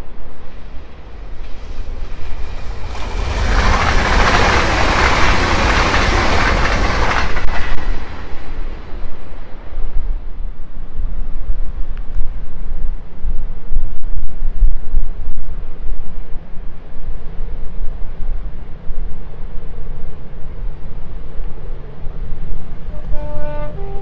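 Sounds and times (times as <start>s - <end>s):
train rushing past: 0.0s - 13.2s, 16.6s - 24.0s
train wheels on rails: 0.0s - 24.0s
wind buffeting microphone: 0.0s - 24.0s.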